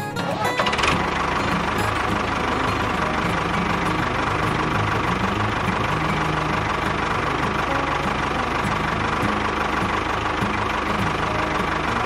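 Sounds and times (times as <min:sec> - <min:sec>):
tractor engine knocking: 0:00.0 - 0:12.0.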